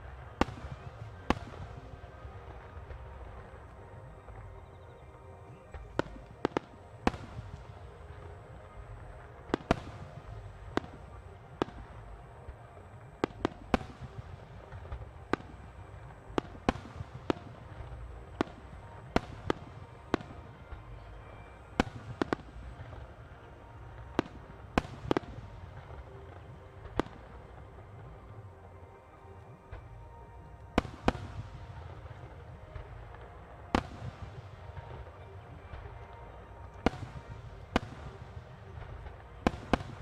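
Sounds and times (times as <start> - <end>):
continuous low rumble: 0.0 - 40.0.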